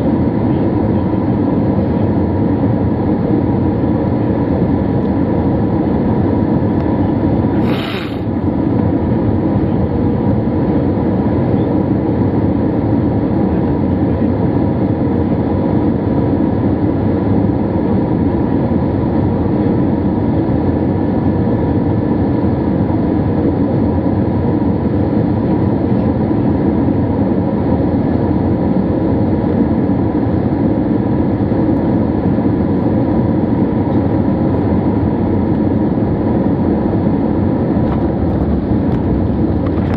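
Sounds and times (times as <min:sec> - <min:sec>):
aircraft cabin engine and airflow noise: 0:00.0 - 0:39.9.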